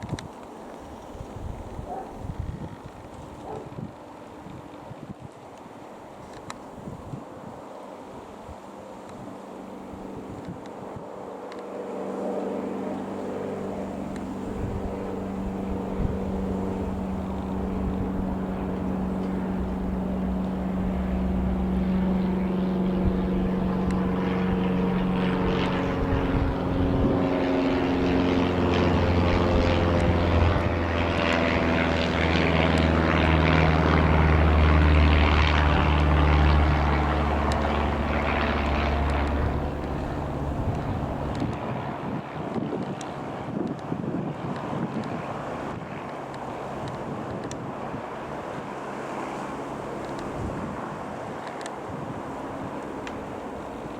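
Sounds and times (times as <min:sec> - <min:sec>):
light aircraft engine running: 0:00.0 - 0:53.9.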